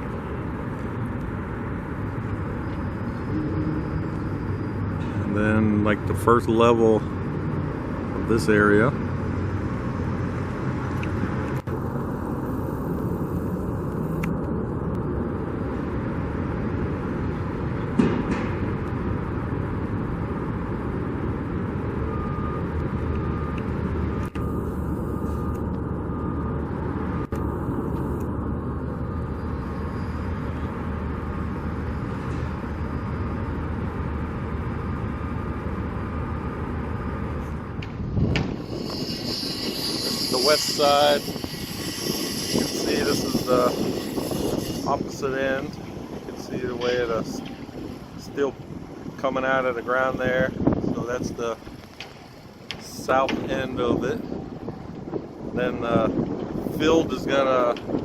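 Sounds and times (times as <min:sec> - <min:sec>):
street traffic going by: 0:00.0 - 0:58.0.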